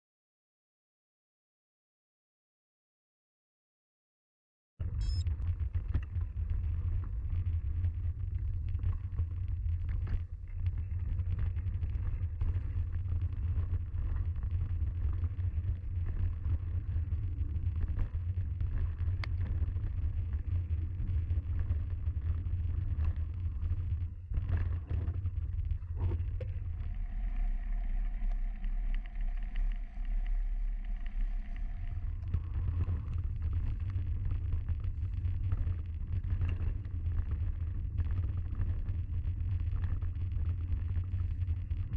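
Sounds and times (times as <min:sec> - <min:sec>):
steady whine: 0:04.8 - 0:41.9
wind rumble on microphone: 0:04.8 - 0:41.9
tyre and trail noise: 0:05.0 - 0:41.9.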